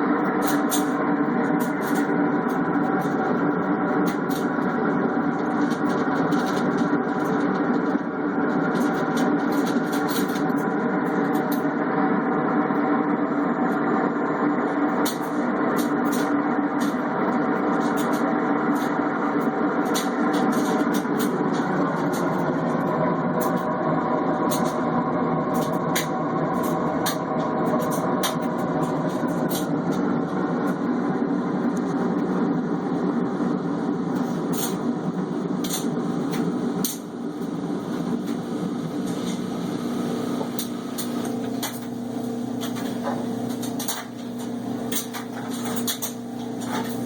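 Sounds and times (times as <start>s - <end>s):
washing machine rumbling: 0.0s - 47.0s.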